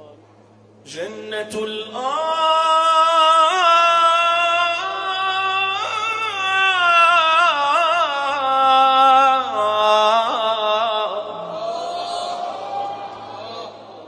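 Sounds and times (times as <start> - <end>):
man singing long melismatic note: 0.8 - 12.6.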